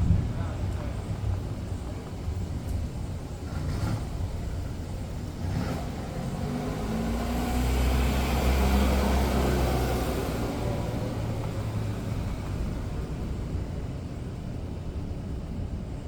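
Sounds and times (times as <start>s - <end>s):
vehicle engine approaching: 3.0s - 16.0s.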